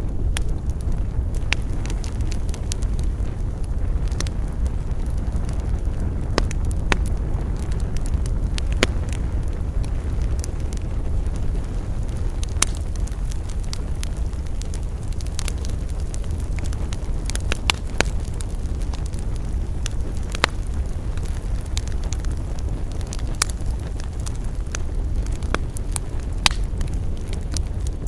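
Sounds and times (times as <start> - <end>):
low rumble of fire: 0.0 - 28.0
wood fire crackling and popping: 0.0 - 28.0.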